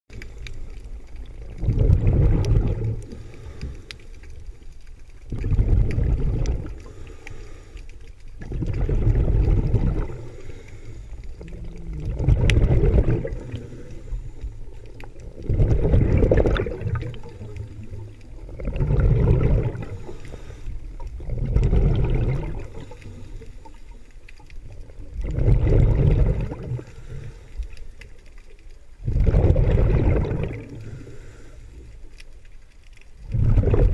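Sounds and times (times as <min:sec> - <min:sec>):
exhaled bubbles underwater: 0:00.1 - 0:07.2, 0:08.2 - 0:32.5, 0:33.1 - 0:33.9.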